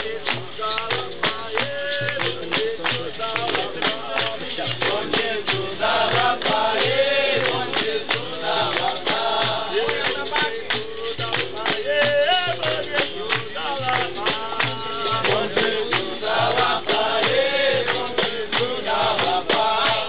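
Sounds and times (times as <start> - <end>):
hand drum beat: 0.0 - 20.0
voices singing: 0.0 - 20.0.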